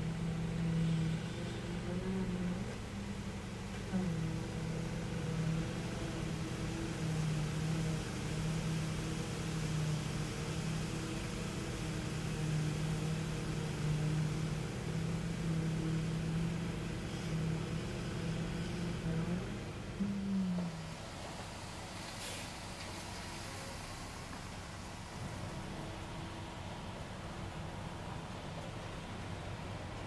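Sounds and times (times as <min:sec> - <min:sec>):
machinery engine drone: 0:00.0 - 0:30.0.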